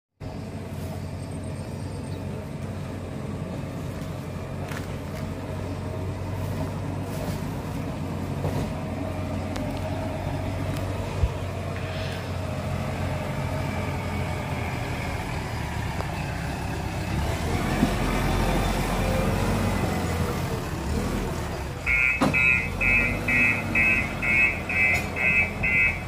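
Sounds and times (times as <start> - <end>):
diesel engine running: 0.2 - 26.0.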